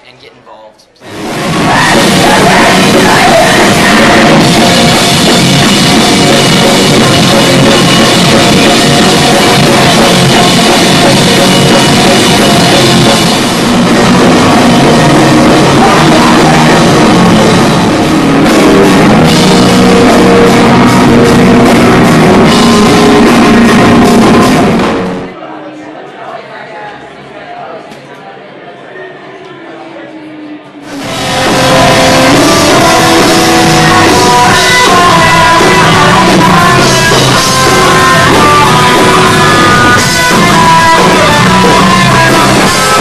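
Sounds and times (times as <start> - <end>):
punk rock band with drums: 1.1 - 25.4, 30.8 - 43.0.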